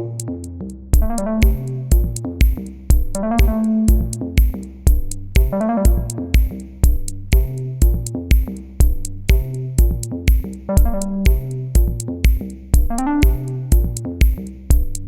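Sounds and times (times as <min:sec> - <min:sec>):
electro dance music: 0:01.0 - 0:15.0.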